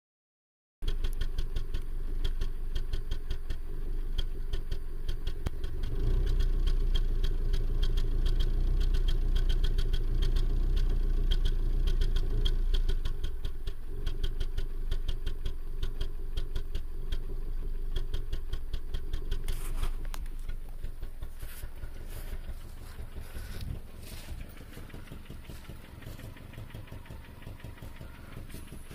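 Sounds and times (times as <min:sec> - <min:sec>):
engine running with rapid knock: 0:00.8 - 0:28.9.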